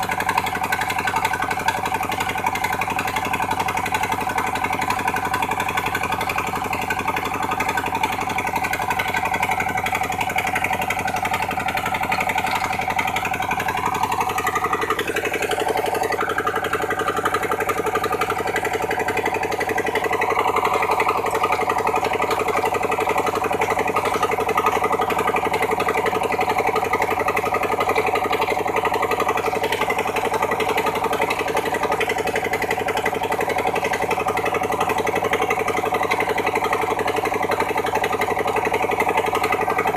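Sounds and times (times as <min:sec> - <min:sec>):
pump engine running: 0:00.0 - 0:39.9.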